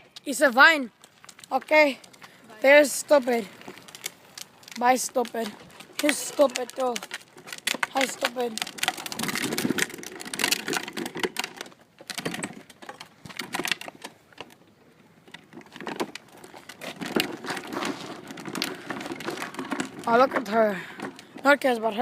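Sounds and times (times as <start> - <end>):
handling clicks and rustling: 0.0 - 22.0.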